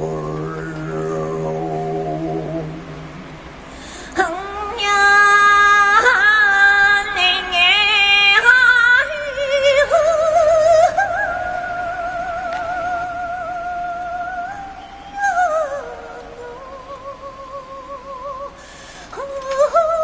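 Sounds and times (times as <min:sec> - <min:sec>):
woman singing wordless high notes: 0:00.0 - 0:20.0.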